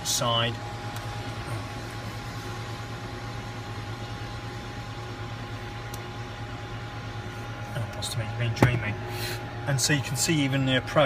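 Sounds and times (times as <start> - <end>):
cockpit low drone: 0.0 - 11.0
thin steady whine: 0.0 - 11.0.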